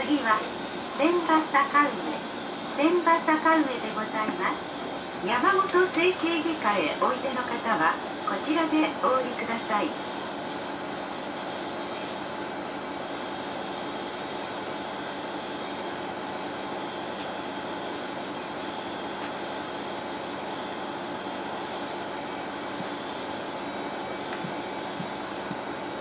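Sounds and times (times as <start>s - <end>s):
air conditioning running: 0.0s - 26.0s.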